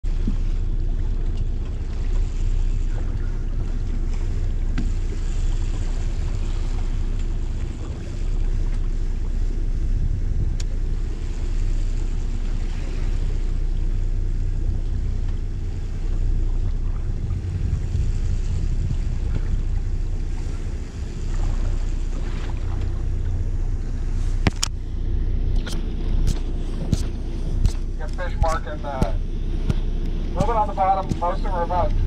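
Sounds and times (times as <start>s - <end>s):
boat engine humming: 0.0s - 32.0s
water noise: 0.0s - 32.0s
wind: 0.0s - 32.0s.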